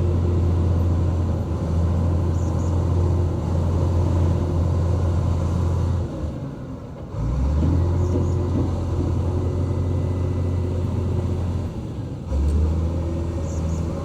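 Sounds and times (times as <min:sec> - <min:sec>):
heavy diesel engine droning: 0:00.0 - 0:14.0.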